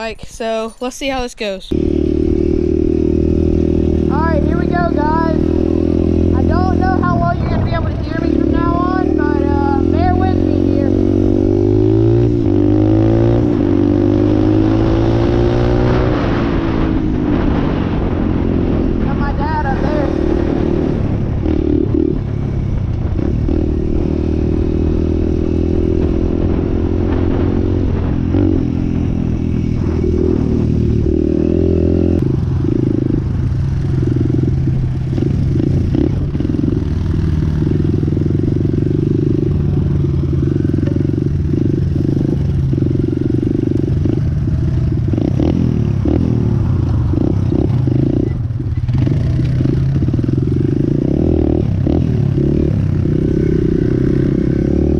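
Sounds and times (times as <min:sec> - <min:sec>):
dirt bike engine revving: 0:01.7 - 0:54.9.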